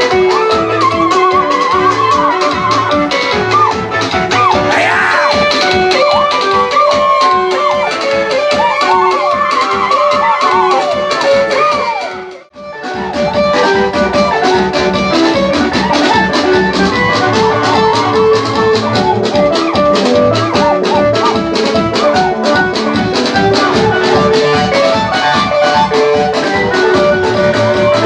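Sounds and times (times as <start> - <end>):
music with guitar and drum beat: 0.0 - 28.0.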